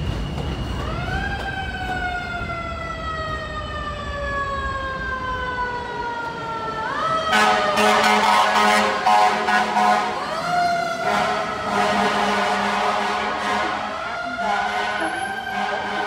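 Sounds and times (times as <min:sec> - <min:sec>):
subway train motor whine: 0:00.0 - 0:16.0.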